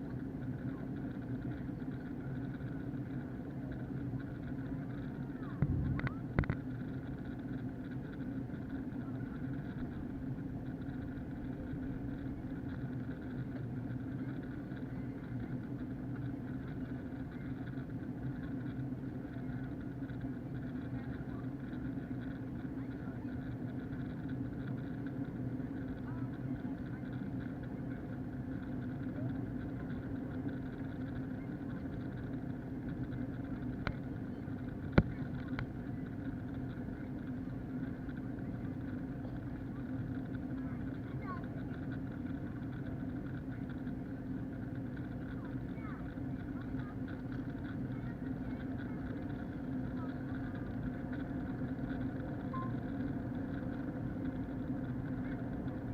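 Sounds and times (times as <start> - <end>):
airplane cabin drone: 0.0 - 55.9.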